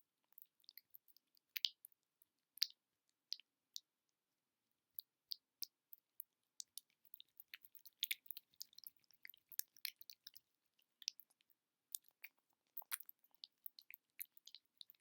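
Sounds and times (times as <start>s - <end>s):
small crisp sticky clicks: 0.3s - 3.9s, 5.0s - 15.0s.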